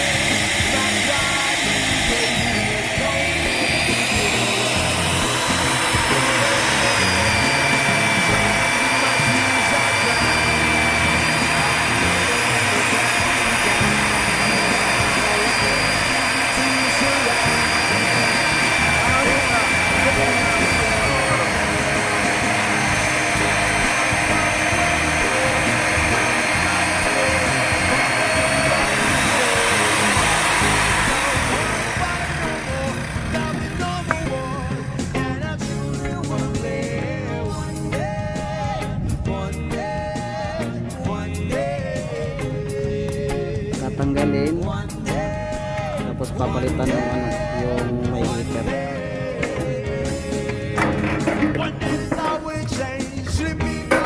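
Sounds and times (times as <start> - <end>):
background music: 0.0 - 54.0
electric motor whirring: 0.0 - 54.0
pop song: 0.0 - 54.0.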